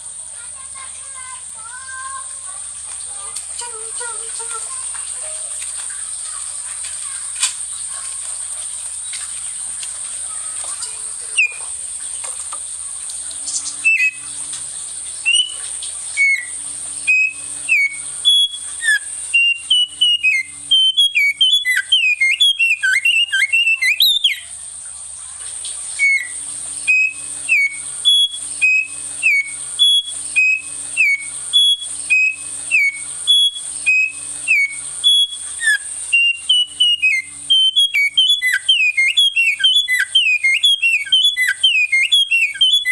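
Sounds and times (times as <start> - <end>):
songbird chirping: 0.0 - 42.9
steady high-pitched whine: 0.0 - 42.9.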